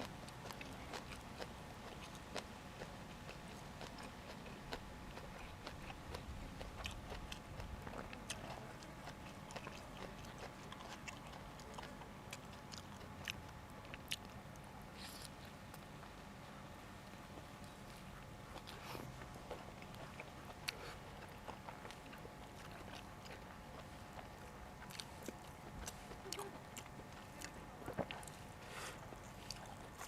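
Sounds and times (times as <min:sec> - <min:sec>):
person chewing crunchy food: 0:00.0 - 0:16.2, 0:17.0 - 0:30.0.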